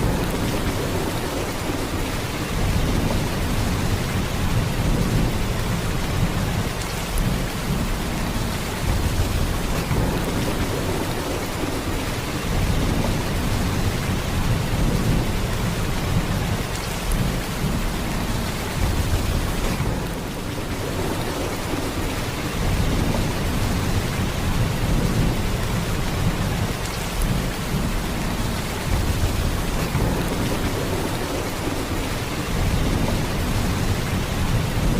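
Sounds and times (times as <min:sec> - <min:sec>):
heavy rain downpour: 0:00.0 - 0:34.9.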